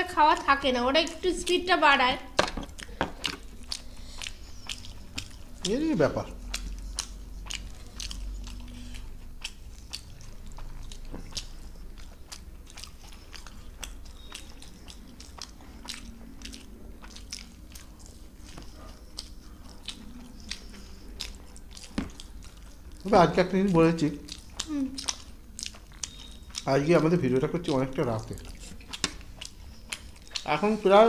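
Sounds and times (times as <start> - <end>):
people chewing: 0.0 - 31.0.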